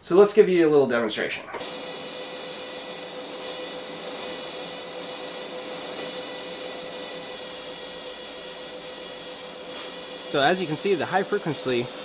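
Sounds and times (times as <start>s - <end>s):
welder spark hissing buzz: 1.6s - 12.0s.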